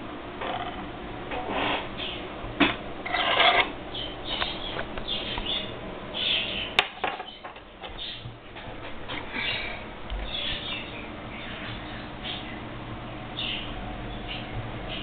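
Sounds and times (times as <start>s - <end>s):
low steady microphone hum: 0.0s - 15.0s.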